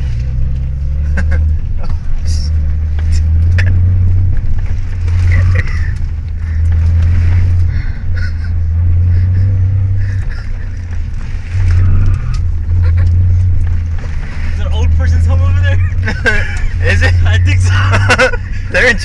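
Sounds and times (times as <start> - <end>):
car engine droning in cabin: 0.0 - 19.0.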